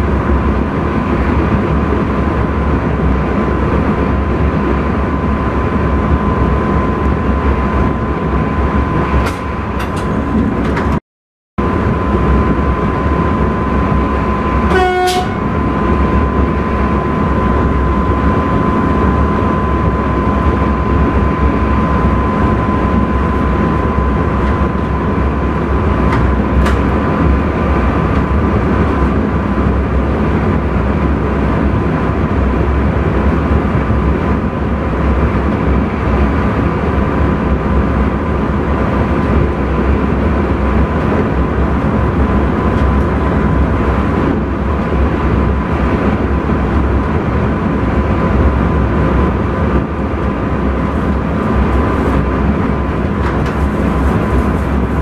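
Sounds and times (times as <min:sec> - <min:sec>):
high whine: 0:00.0 - 0:11.0, 0:11.6 - 0:55.0
train wheels rumbling on rail: 0:00.0 - 0:11.0, 0:11.6 - 0:55.0.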